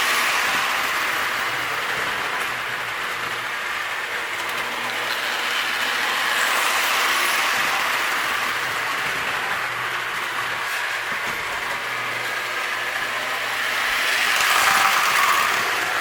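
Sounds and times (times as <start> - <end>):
toy train clattering on rails: 0.0 - 16.0.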